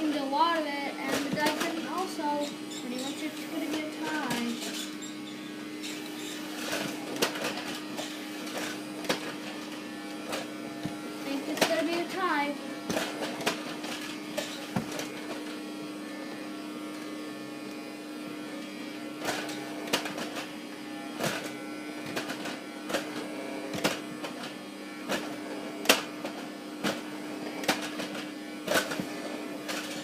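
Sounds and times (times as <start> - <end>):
vacuum cleaner motor humming: 0.0 - 30.0.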